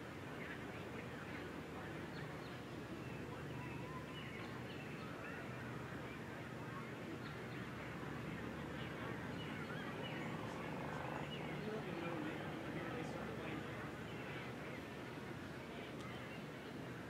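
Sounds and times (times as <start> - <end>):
distant voices talking: 0.5 - 17.0.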